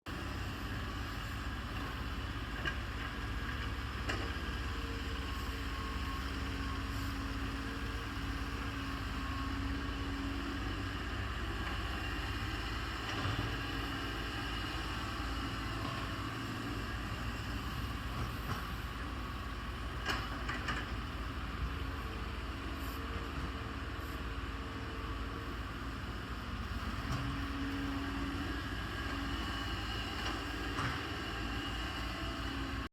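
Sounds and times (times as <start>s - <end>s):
excavator diesel engine running: 0.1s - 32.9s.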